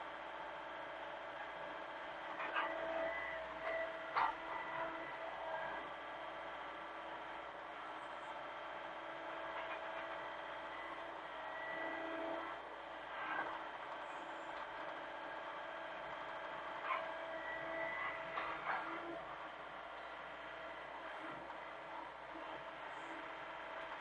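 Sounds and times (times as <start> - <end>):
excavator engine whining drone: 0.0 - 24.0.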